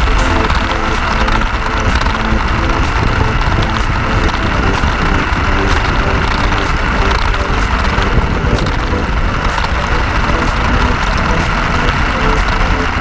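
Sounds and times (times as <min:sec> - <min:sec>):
electric motor whine: 0:00.0 - 0:13.0
wind rumble on microphone: 0:00.0 - 0:13.0.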